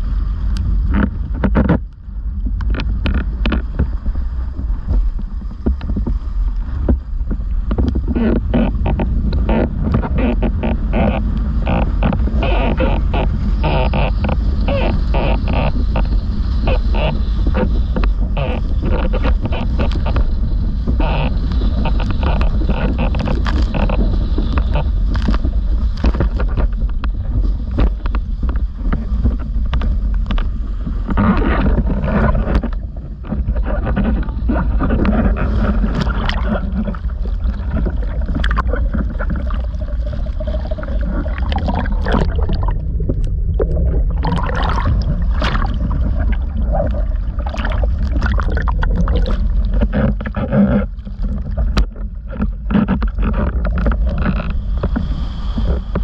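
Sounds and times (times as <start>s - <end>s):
board hull slapping through water: 0.0s - 56.0s
wind rumble on microphone: 0.0s - 56.0s.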